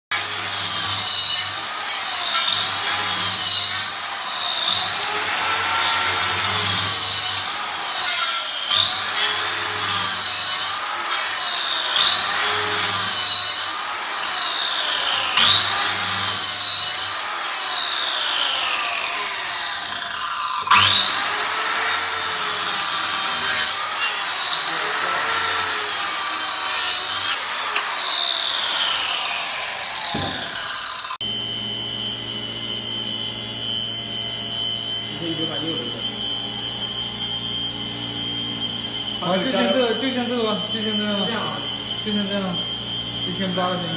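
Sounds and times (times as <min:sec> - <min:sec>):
circular saw cutting: 0:00.1 - 0:43.9.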